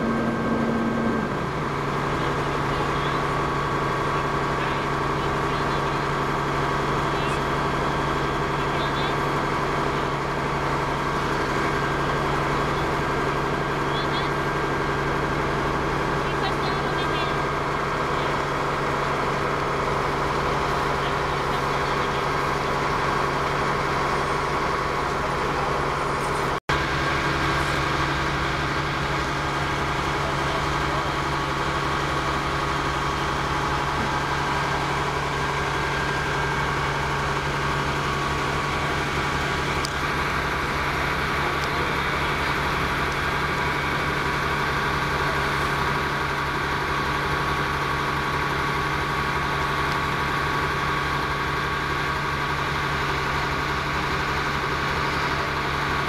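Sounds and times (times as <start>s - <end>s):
large engine humming with whine: 0.0s - 56.0s.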